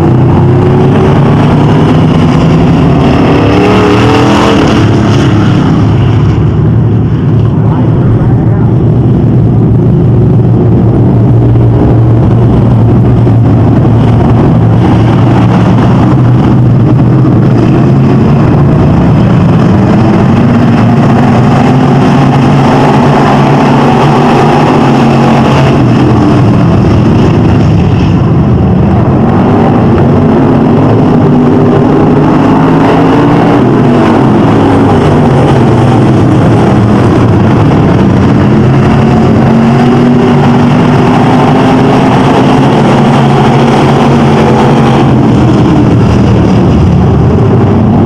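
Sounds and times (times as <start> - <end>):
racing car engines at full throttle: 0.0 - 48.0.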